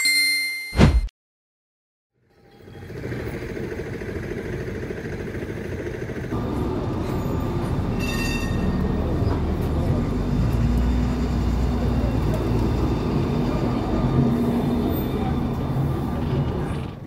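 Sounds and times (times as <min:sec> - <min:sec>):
street traffic rumble: 0:02.2 - 0:17.0
trams rumbling: 0:02.3 - 0:17.0.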